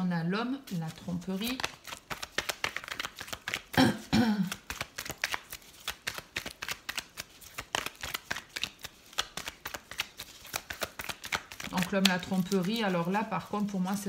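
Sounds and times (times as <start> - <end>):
cards being shuffled: 0.7 - 3.8, 4.4 - 14.0.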